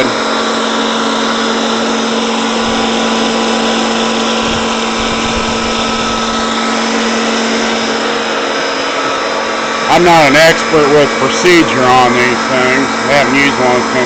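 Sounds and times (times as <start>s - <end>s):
wood planer humming and whining: 0.0s - 14.0s.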